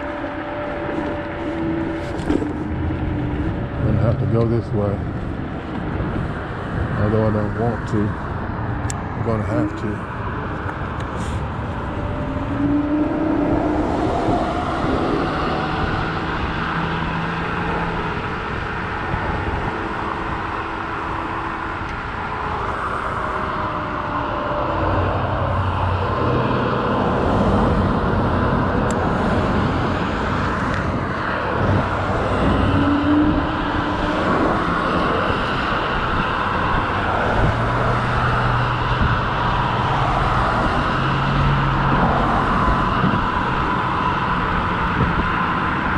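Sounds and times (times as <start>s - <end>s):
cars passing: 0.0s - 45.9s
road noise: 0.0s - 45.9s
wind noise: 0.0s - 45.9s.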